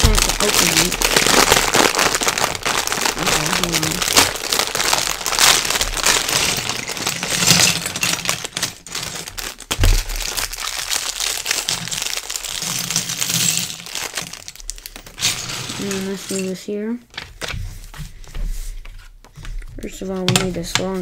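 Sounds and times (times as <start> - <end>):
plastic bag crinkling and tearing: 0.0 - 18.0.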